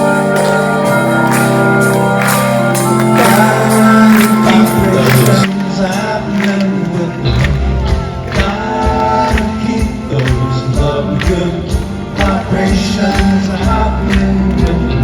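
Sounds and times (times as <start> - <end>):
bass guitar: 0.0 - 15.0
live pop band music: 0.0 - 15.0
steady drumbeat: 2.2 - 14.9.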